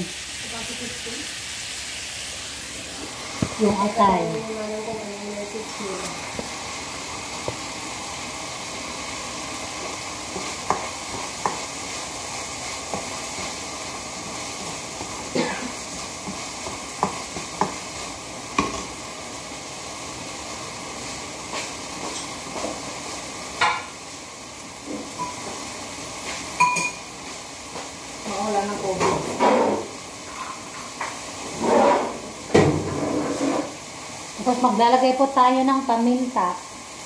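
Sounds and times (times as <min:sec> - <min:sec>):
onion and tomato sizzling in a wok: 0:00.0 - 0:37.0.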